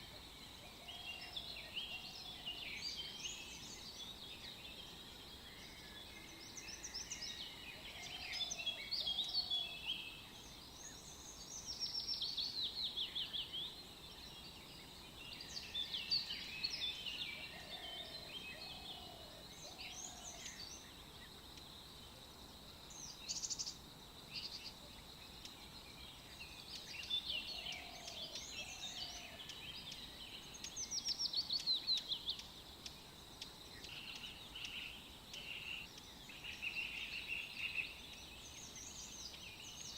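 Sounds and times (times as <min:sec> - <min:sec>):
birds singing with trills: 0:00.0 - 0:22.1, 0:22.9 - 0:39.9
faint steady hiss: 0:00.0 - 0:39.9.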